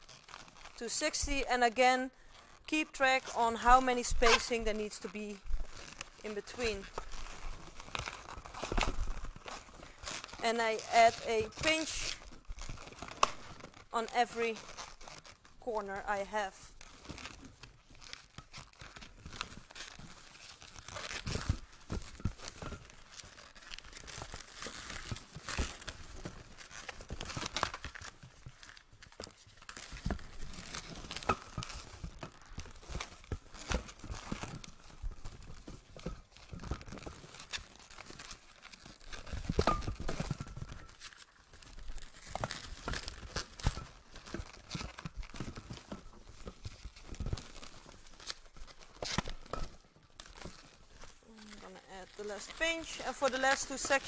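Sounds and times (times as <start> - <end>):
balloons squeaking and rubbing: 0.0 - 54.0.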